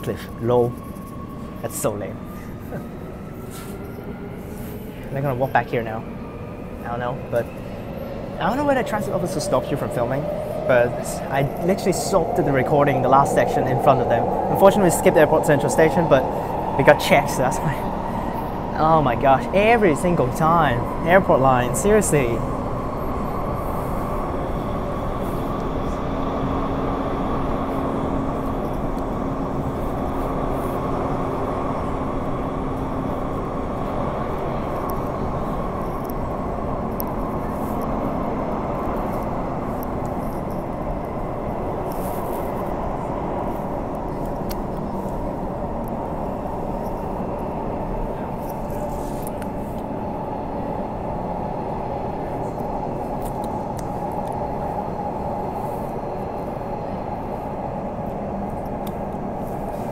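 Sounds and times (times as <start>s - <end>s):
train car rumbling: 0.0s - 59.9s
low hum: 2.2s - 57.8s.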